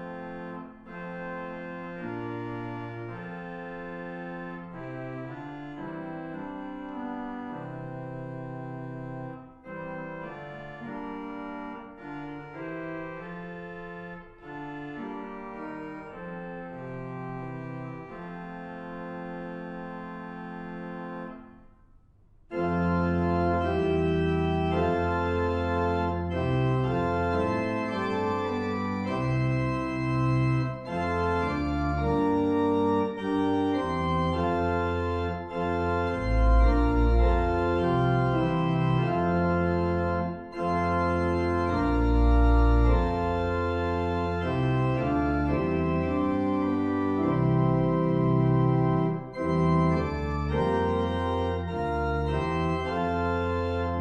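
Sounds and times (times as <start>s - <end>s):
organ playing a hymn: 0.0s - 21.6s, 22.5s - 54.0s.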